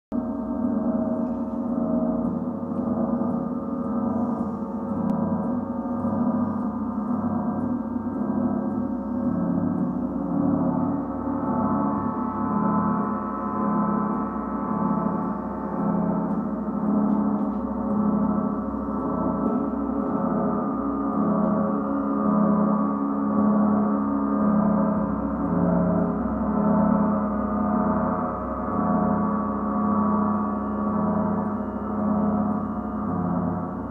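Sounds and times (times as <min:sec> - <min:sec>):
gongs shimmering: 0:00.2 - 0:33.9.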